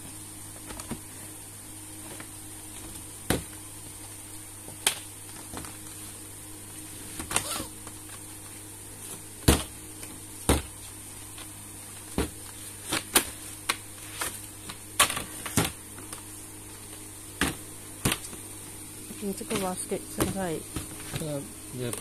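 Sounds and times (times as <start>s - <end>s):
background hum: 0.0s - 22.0s.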